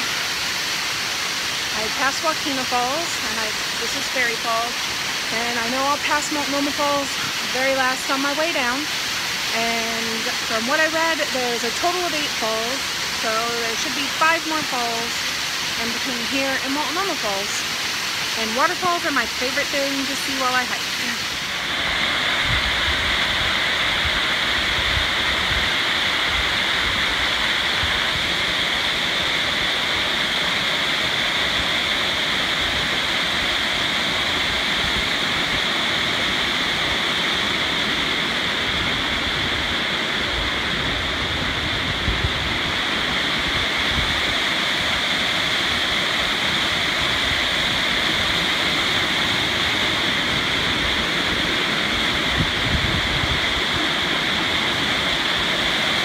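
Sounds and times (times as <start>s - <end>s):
waterfall pouring onto rocks: 0.0s - 14.0s, 14.8s - 56.0s
creek rushing: 0.0s - 56.0s.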